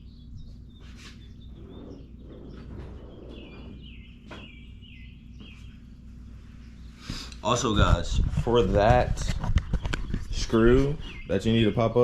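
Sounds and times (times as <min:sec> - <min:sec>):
bird chirping: 0:00.0 - 0:07.2, 0:09.3 - 0:12.0
steady low hum: 0:00.0 - 0:12.0.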